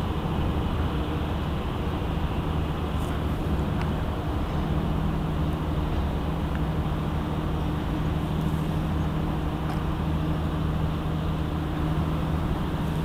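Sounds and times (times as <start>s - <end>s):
low engine hum: 0.0s - 13.0s
urban rumble: 0.0s - 13.0s.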